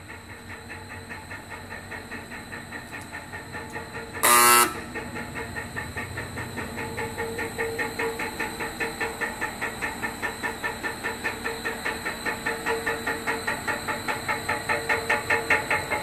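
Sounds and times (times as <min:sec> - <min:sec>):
press rhythmic pulsing: 0:00.3 - 0:16.0.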